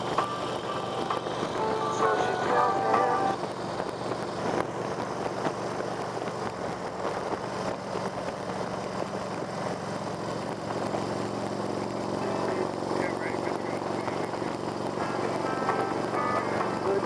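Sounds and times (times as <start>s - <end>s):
low even hum: 0.0s - 17.0s
vehicle rumble: 0.0s - 17.0s.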